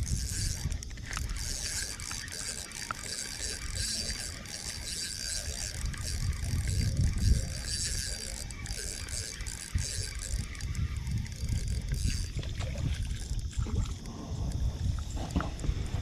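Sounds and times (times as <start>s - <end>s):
fishing reel gears whirring: 0.0s - 16.0s.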